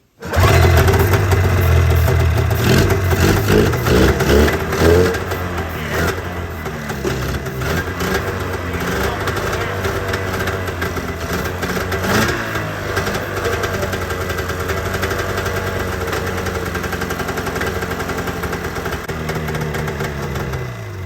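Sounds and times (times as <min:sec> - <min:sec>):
engine revving: 0:00.2 - 0:21.0
snowmobile engine idling: 0:00.2 - 0:21.0.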